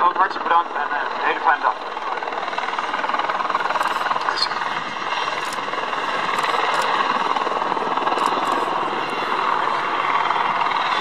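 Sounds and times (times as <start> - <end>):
helicopter flying close: 0.0 - 11.0.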